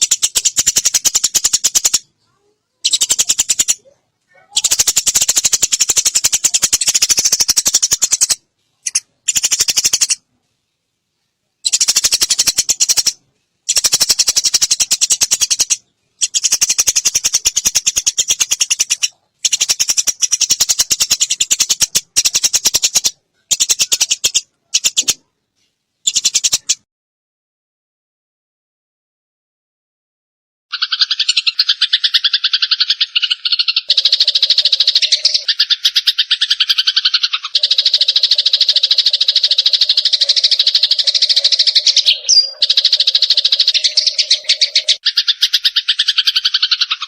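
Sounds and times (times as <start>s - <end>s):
sparrows chattering harshly: 0.0s - 10.2s, 11.6s - 25.3s, 26.0s - 26.8s, 30.7s - 47.0s.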